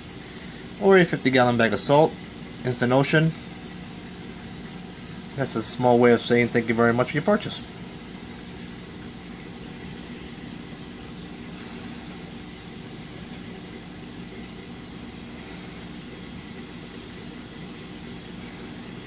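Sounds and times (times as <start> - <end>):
mechanical hum with hiss: 0.0 - 19.0.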